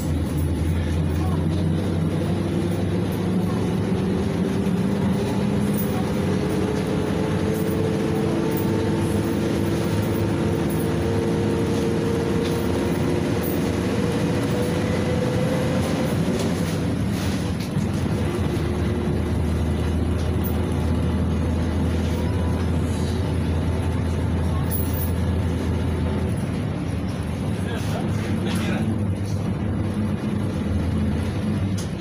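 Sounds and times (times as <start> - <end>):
bus engine running: 0.0 - 32.0
road rumble: 0.0 - 32.0.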